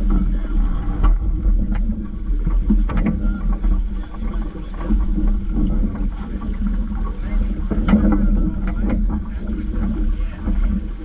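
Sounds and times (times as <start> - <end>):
water washing along hull: 0.0 - 11.0
wind rumbling on microphone: 0.0 - 11.0.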